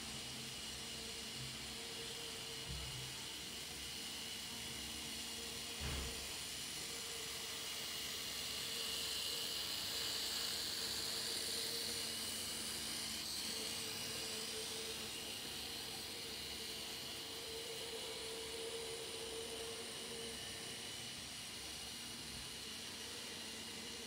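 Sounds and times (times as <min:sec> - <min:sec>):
model train motor whine: 0:00.0 - 0:24.0.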